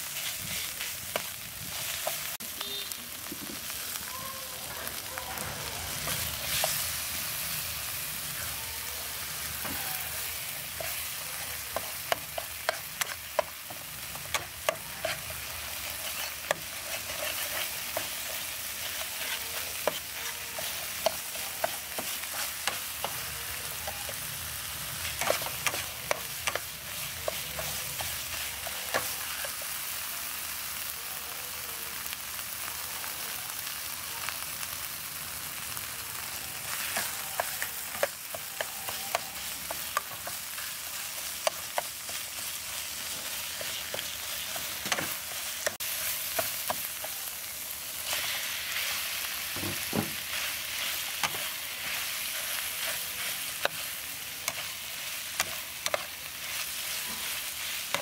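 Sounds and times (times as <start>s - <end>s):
paste sizzling in hot oil: 0.0s - 58.0s.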